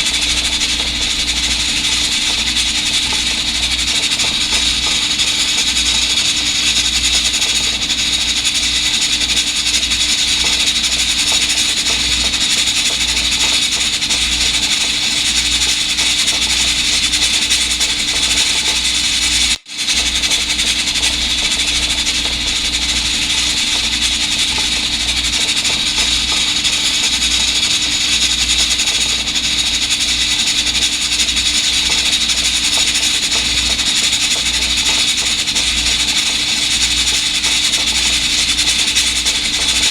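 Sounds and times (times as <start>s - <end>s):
rubbing and scrubbing rice cooker: 0.0s - 39.9s.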